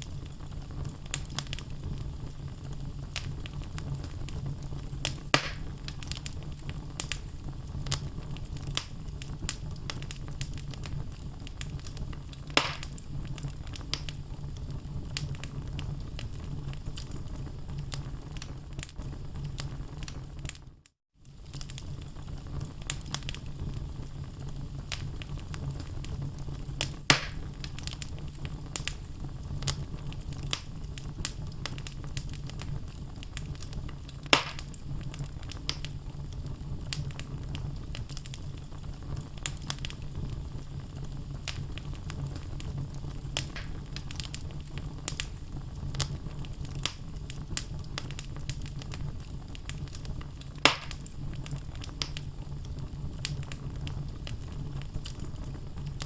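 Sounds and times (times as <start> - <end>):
sharp fire pops: 0.0 - 20.6, 21.3 - 56.0
flames rumbling: 0.0 - 56.0
logs crackling: 0.3 - 18.9, 26.8 - 36.0, 36.8 - 56.0.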